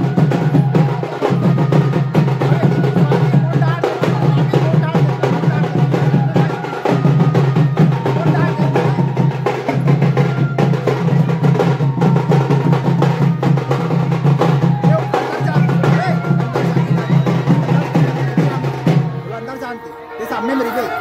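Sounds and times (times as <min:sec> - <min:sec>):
fast dense drumming: 0:00.0 - 0:19.4
crowd voices: 0:00.0 - 0:21.0.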